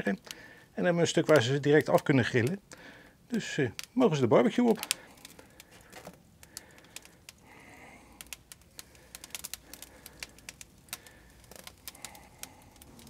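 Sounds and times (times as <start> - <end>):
skewers clicking on grill grate: 0.0 - 2.7, 3.3 - 13.0.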